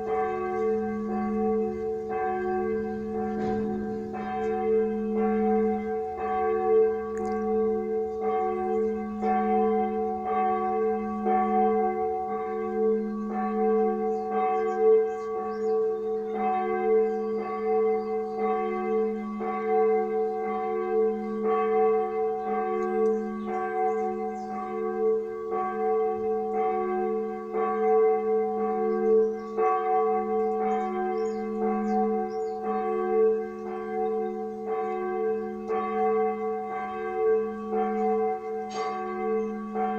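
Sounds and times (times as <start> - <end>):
large bell ringing: 0.0 - 39.9.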